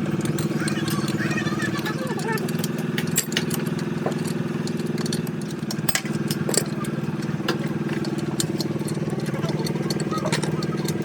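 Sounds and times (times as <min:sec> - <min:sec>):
engine idling: 0:00.0 - 0:11.0
metallic clinks and taps: 0:00.2 - 0:11.0.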